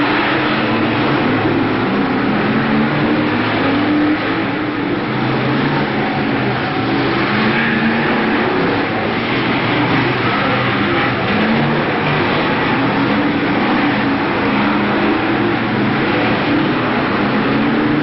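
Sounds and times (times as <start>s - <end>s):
racing car engines: 0.0s - 18.0s.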